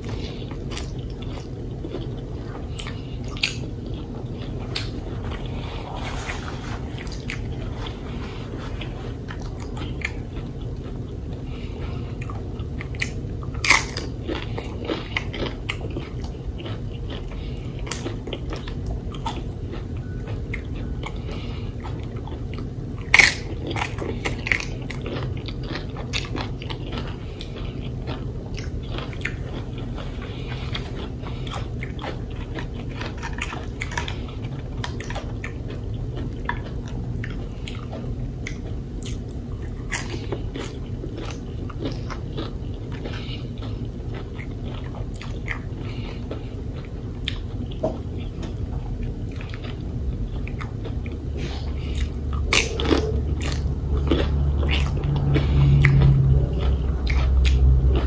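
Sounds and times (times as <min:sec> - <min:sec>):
crunching tortilla chips: 0:00.0 - 0:58.0.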